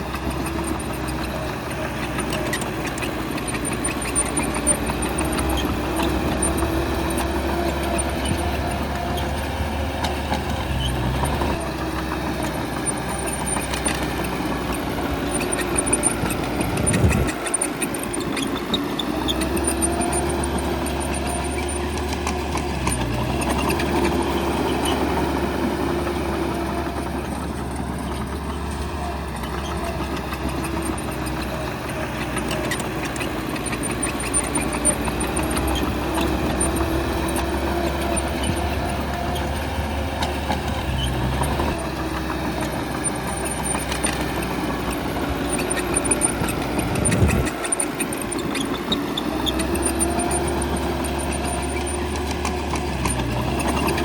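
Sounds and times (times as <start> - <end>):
bulldozer diesel engine working: 0.0 - 54.0.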